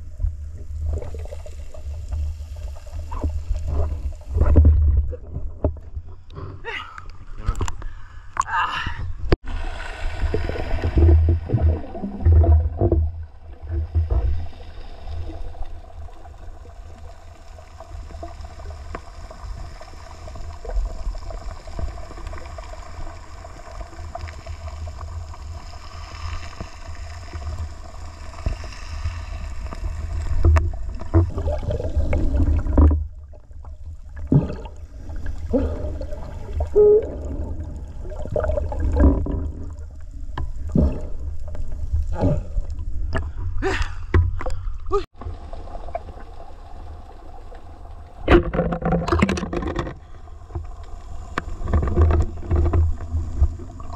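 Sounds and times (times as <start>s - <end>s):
muffled underwater rumble: 9.2s - 53.9s.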